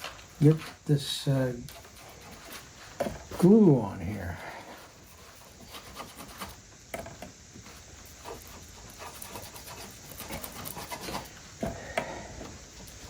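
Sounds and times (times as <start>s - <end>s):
glue brush scrubbing wood: 0.0s - 6.8s, 7.6s - 13.0s.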